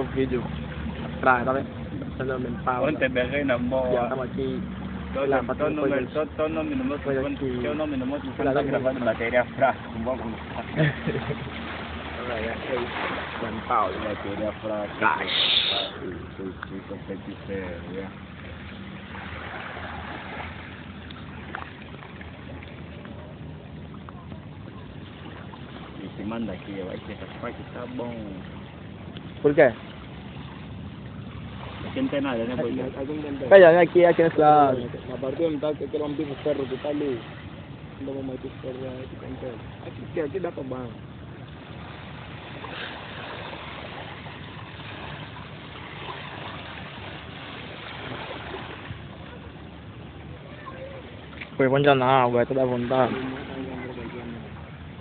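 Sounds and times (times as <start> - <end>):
small waves lapping on sand: 0.0 - 55.0
water noise at shore: 0.0 - 55.0
wind: 0.0 - 55.0.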